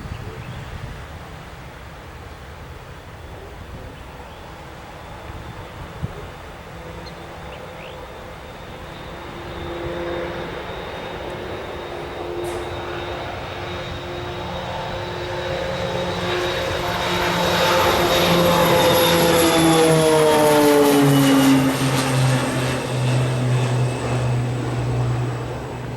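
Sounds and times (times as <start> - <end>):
propeller and turbine whine: 0.0 - 25.9
turboprop aircraft passing: 0.0 - 25.9.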